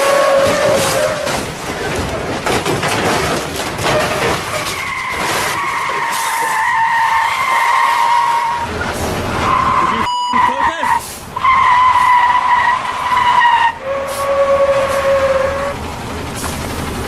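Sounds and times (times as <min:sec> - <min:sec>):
car tyres squealing: 0:00.0 - 0:02.0, 0:03.2 - 0:16.5
road and traffic noise: 0:00.0 - 0:17.0.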